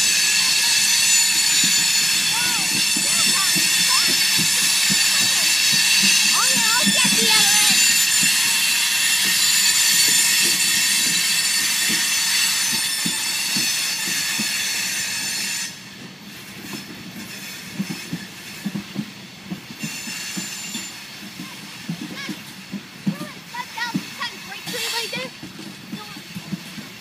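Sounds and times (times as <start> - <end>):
train wheels squealing: 0.0 - 19.1, 19.7 - 27.0
freight cars rolling: 0.0 - 27.0
wheels clacking on rails: 0.0 - 27.0.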